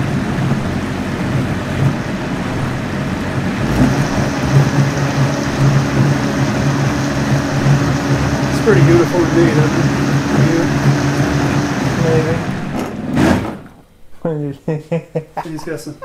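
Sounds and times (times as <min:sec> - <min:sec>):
blender motor whirring: 0:00.0 - 0:13.8.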